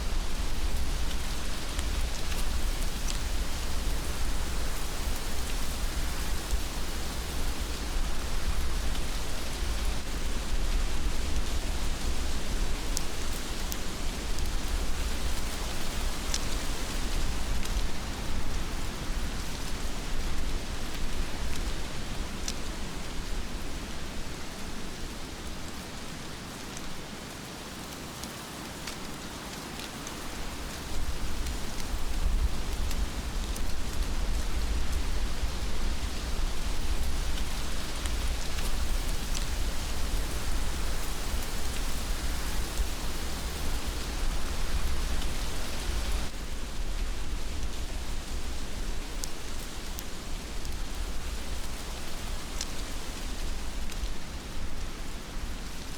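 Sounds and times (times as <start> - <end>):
heavy rain falling: 0.1 - 55.9.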